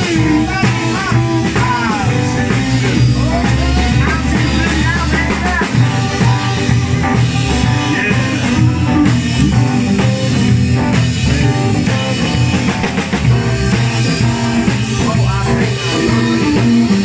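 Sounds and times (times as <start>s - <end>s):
blues-rock band playing: 0.0s - 17.0s
lead guitar bending notes: 0.0s - 17.0s.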